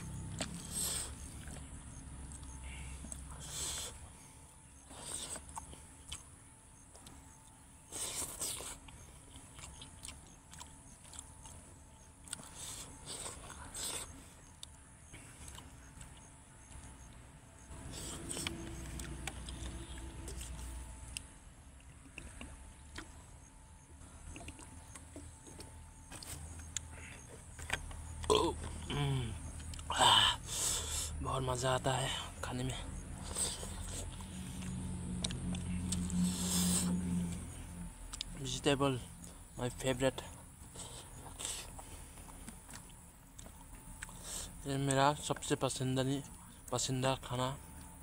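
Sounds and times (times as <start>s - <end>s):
person chewing: 0.0s - 45.5s
rustling eating noise: 0.0s - 48.0s
steady low hum: 0.0s - 48.0s.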